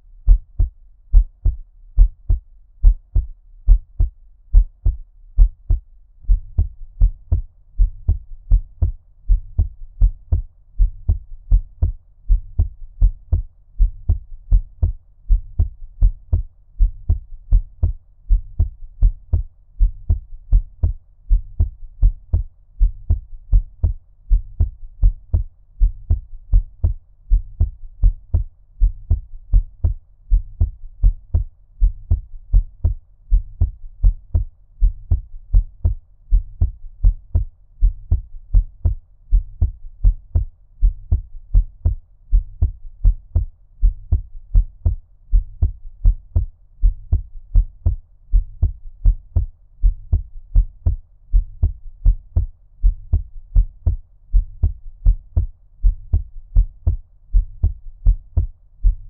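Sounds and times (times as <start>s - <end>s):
muffled heartbeat: 0.2s - 59.0s.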